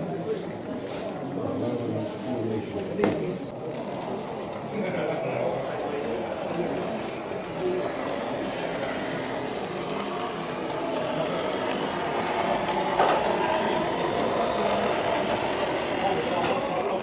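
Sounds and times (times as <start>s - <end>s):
exhibition hall drone: 0.0s - 17.0s.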